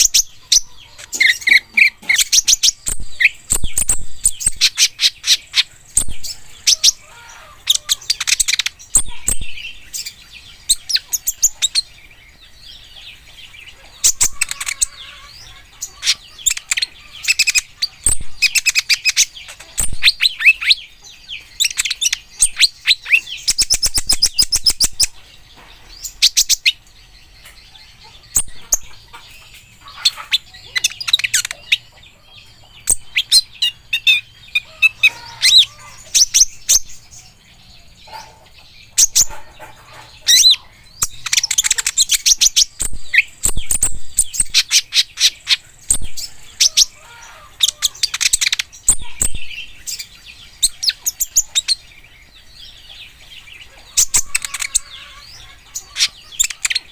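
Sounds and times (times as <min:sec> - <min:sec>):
bird chirping and trilling: 0:00.0 - 0:56.9.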